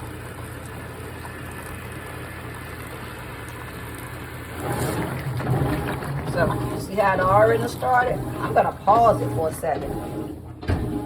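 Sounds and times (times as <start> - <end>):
washing machine running: 0.0 - 11.0
water filling tub: 0.0 - 11.0.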